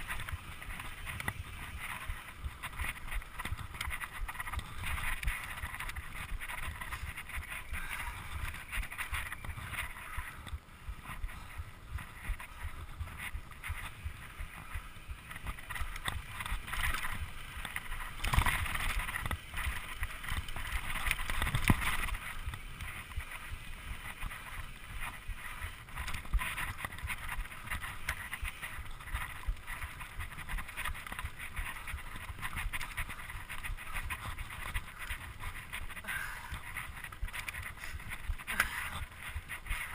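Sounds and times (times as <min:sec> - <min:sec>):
bike rattling over rough ground: 0:00.0 - 0:39.9
tyre and wind rush: 0:00.0 - 0:39.9.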